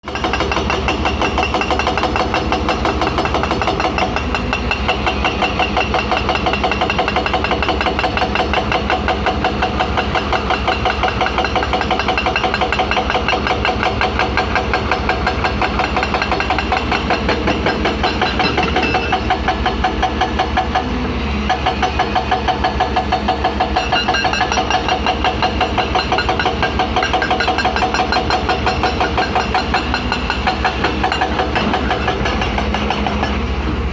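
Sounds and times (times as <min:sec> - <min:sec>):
hydraulic breaker pounding rock: 0:00.0 - 0:33.9
diesel engine running: 0:00.2 - 0:33.9.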